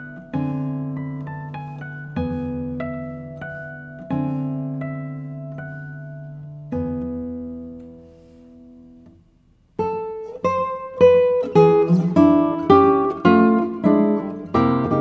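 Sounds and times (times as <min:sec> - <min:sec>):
plucked notes: 0:00.0 - 0:09.3, 0:09.9 - 0:15.0.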